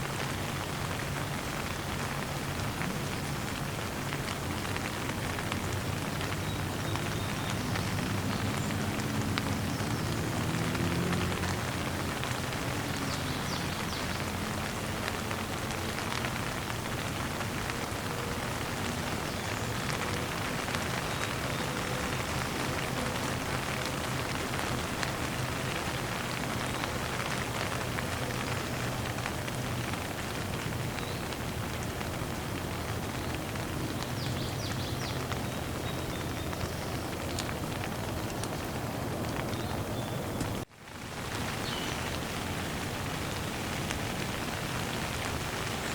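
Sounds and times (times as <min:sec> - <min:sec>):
rain pattering on a surface: 0:00.0 - 0:45.9.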